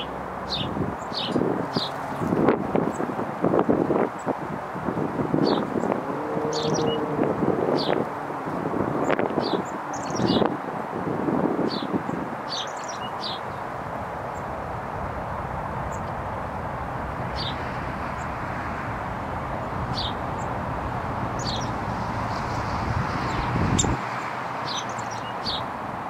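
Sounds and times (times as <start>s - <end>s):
songbirds chirping: 0.0s - 3.4s, 4.0s - 26.0s.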